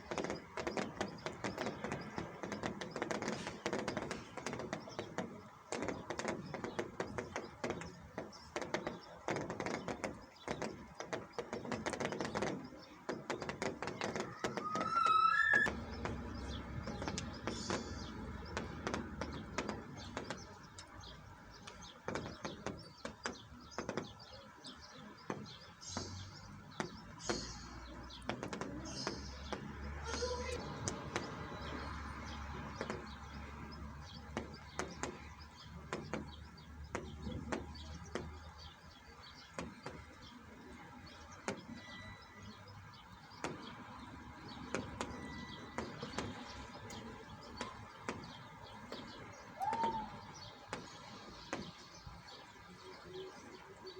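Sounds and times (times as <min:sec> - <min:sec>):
drips tapping: 0:00.0 - 0:53.8
birds chirping: 0:00.0 - 0:53.9.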